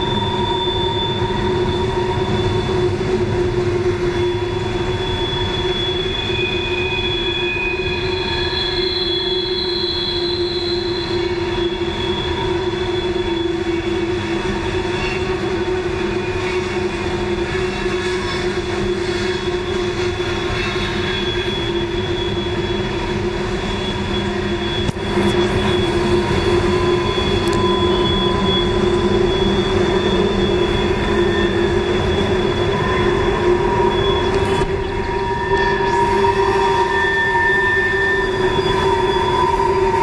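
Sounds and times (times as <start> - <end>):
train wheels rumbling: 0.0 - 40.0
wheel flanges squealing: 0.0 - 40.0.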